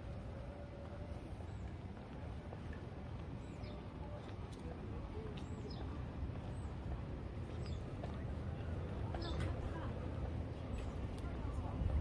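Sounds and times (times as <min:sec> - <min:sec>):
market crowd hubbub: 0:00.0 - 0:12.0.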